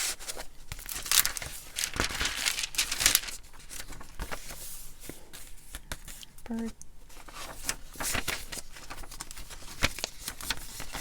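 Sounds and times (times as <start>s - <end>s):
paper rustling and crinkling: 0.0s - 6.3s, 7.1s - 11.0s.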